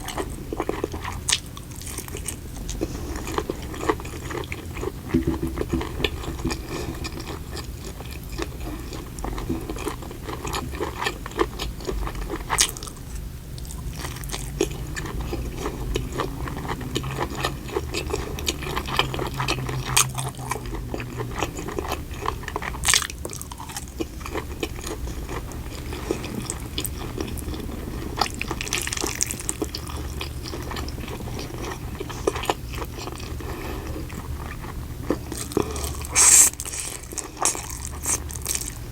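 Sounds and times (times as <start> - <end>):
chewing and biting food: 0.0 - 38.9
food crunching: 0.0 - 38.9.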